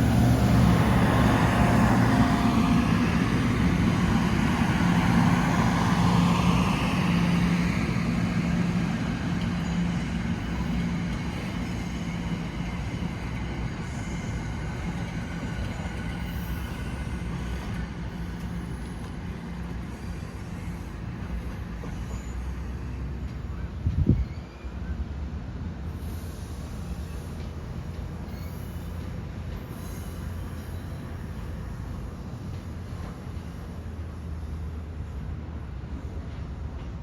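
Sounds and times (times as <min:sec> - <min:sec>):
passenger train running past: 0:00.0 - 0:37.0.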